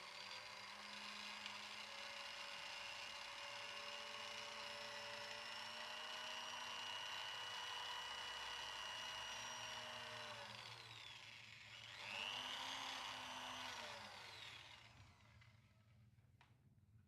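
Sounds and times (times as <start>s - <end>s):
electric drill whining: 0.0s - 15.7s.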